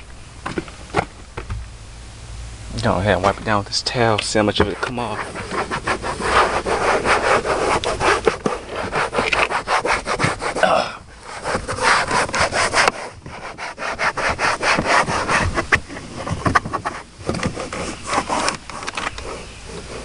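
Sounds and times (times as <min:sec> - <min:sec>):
towel scrubbing plastic panel: 0:03.2 - 0:10.6, 0:11.2 - 0:20.0.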